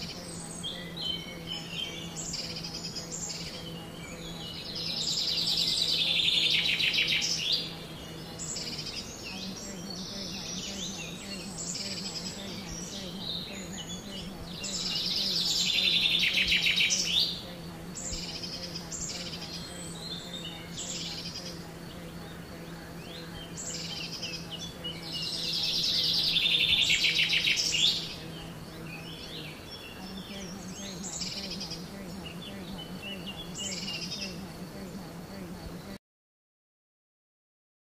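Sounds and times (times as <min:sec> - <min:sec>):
faint low hum: 0:00.0 - 0:36.0
songbirds chirping: 0:00.0 - 0:36.0.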